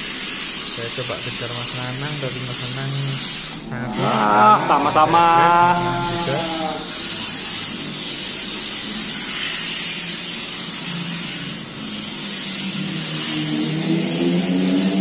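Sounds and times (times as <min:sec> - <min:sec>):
steady hiss: 0:00.0 - 0:13.4.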